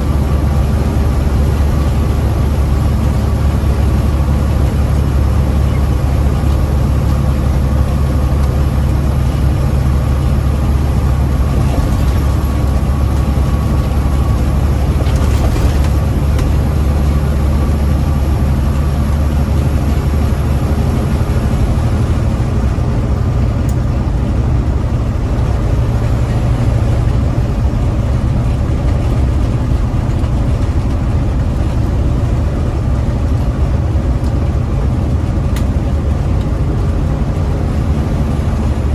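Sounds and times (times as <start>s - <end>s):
diesel truck engine drone: 0.0s - 38.9s.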